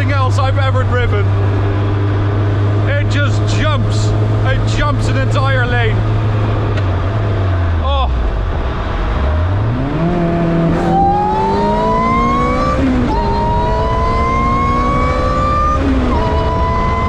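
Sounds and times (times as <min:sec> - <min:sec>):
car engine accelerating hard: 0:00.0 - 0:17.0
quick gear upshifts: 0:00.0 - 0:17.0.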